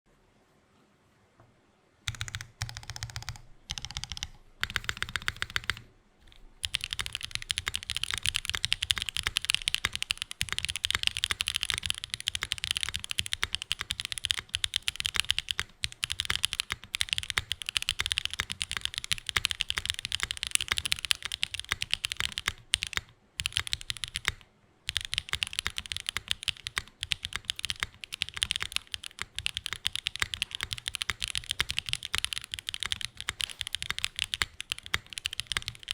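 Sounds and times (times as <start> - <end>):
mechanical keyboard typing: 2.1 - 35.9.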